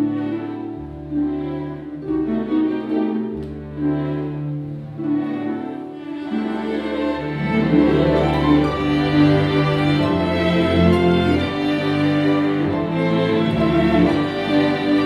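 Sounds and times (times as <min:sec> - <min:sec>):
bowed strings playing slow melody: 0:00.0 - 0:15.0.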